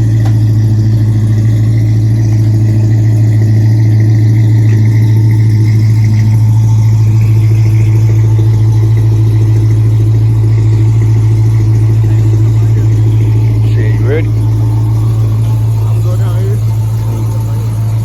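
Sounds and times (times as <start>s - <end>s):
loud car exhaust drone: 0.0s - 18.0s.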